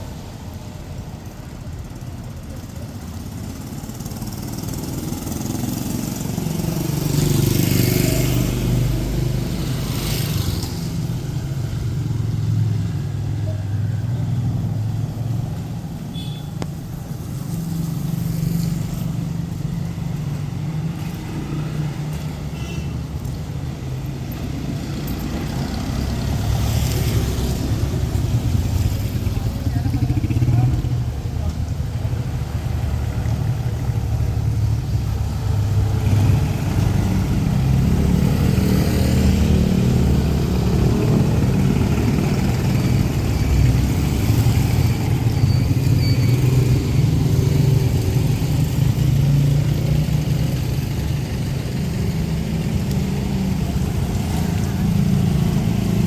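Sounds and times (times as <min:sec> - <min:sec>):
vehicles passing close by: 0:00.0 - 0:56.0.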